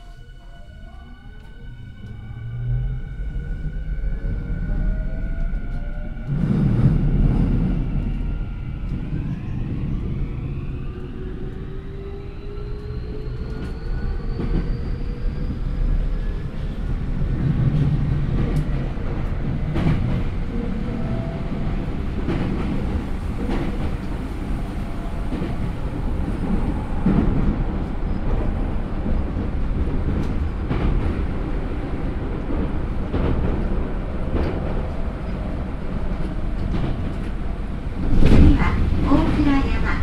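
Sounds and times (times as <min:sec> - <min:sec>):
train wheel and rail rumble: 0:00.0 - 0:40.0.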